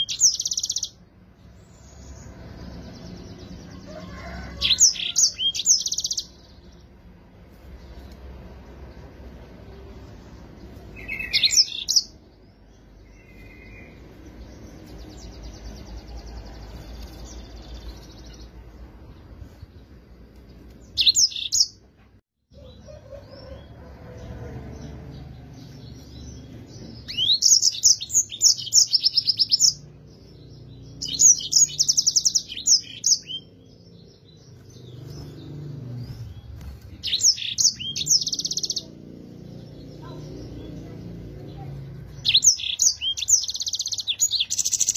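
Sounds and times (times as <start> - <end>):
canary twittering and trills: 0.0 - 21.9, 22.5 - 44.9.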